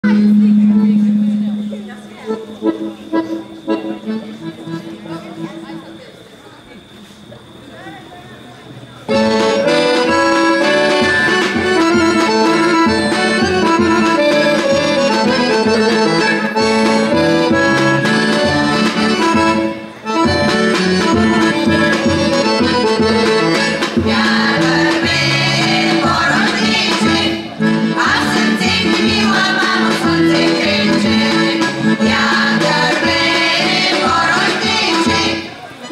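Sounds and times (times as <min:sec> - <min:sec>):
accordion playing folk tune: 0:00.0 - 0:06.0, 0:09.1 - 0:35.9.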